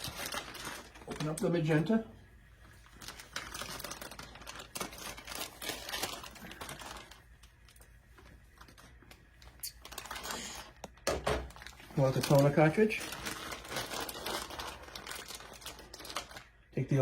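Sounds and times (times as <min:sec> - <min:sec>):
packaging crinkling and clicking: 0:00.0 - 0:01.5, 0:03.0 - 0:16.6.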